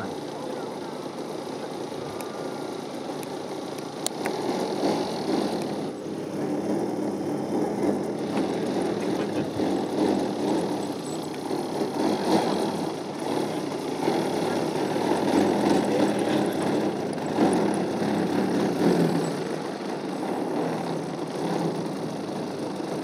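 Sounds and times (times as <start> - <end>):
model plane engine running: 0.0 - 23.0.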